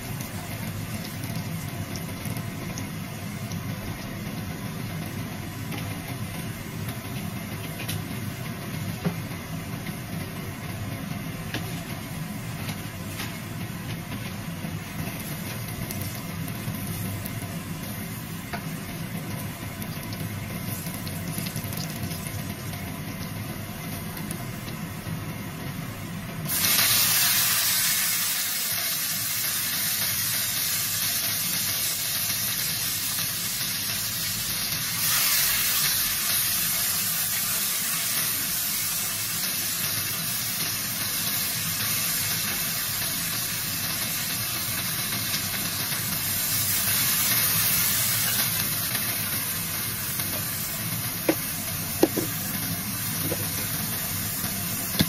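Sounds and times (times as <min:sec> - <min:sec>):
food sizzling in oil in a wok: 0:00.0 - 0:55.0.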